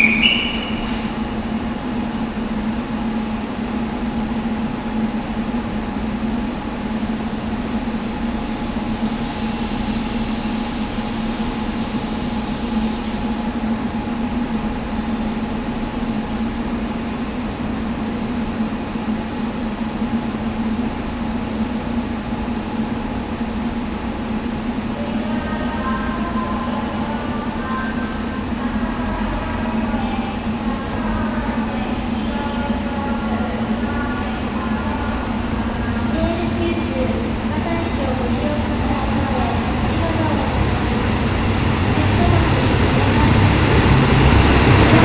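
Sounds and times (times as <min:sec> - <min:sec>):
train humming: 0:00.0 - 0:45.0.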